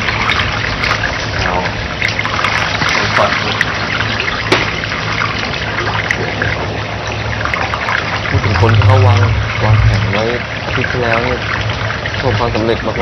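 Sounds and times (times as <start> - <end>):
low hum: 0.0 - 13.0
running water splashing: 0.0 - 13.0.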